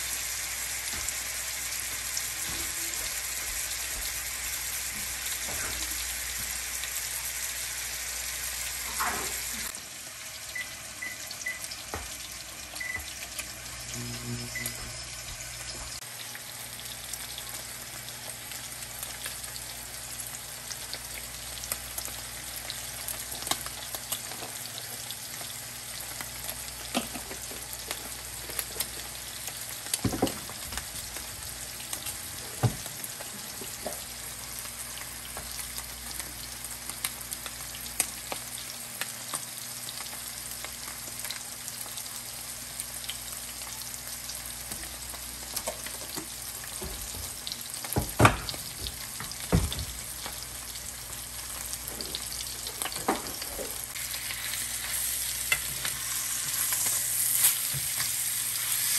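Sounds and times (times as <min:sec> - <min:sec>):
steaks sizzling in a frying pan: 0:00.0 - 0:58.9.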